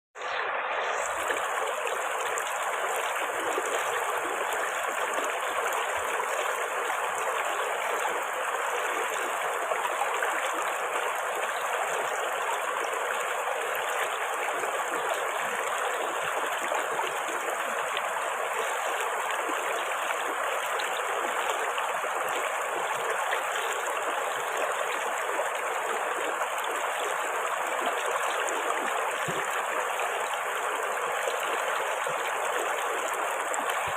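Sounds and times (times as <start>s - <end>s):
river water flowing over rocks: 0.2s - 33.9s.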